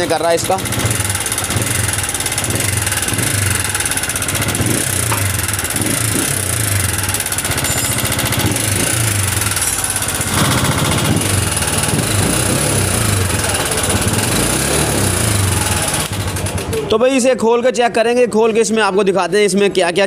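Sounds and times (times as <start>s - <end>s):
engine idling with mechanical clatter: 0.0s - 18.2s.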